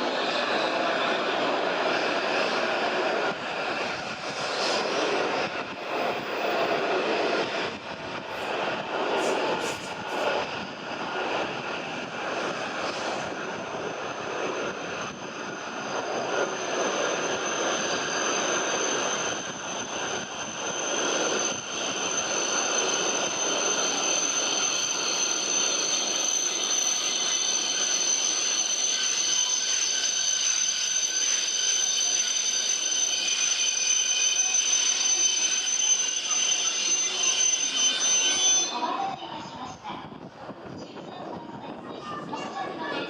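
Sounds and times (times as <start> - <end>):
steady high whine: 0.0 - 38.7
train running noise: 0.0 - 43.0.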